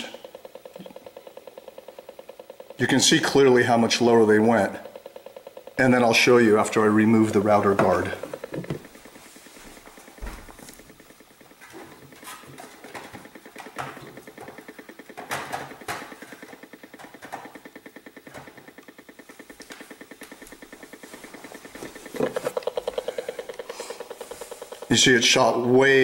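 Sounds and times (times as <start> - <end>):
fast pulsing electronic buzz: 0.0 - 26.0.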